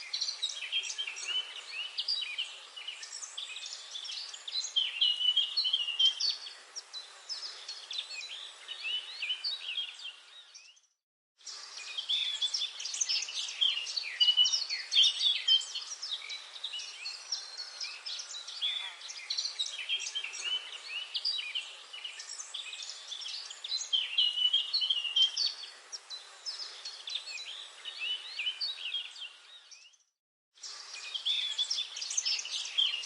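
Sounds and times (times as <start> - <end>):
songbirds chirping and whistling: 0.0 - 33.0.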